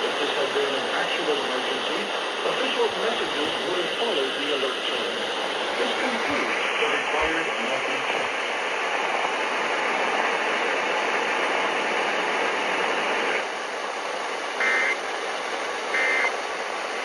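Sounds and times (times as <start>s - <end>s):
radio static hiss: 0.0s - 13.5s, 14.6s - 15.0s, 15.9s - 16.3s.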